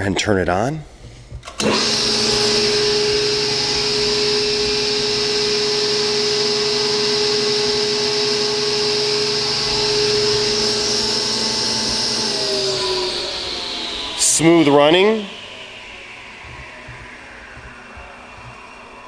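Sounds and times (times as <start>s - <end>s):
table saw motor whine: 1.5s - 19.0s.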